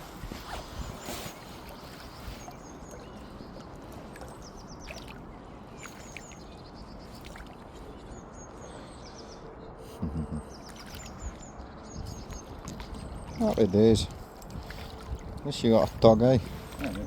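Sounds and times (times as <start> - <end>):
water: 0.0 - 17.0
wind: 0.0 - 17.0
small birds chirping: 0.3 - 17.0.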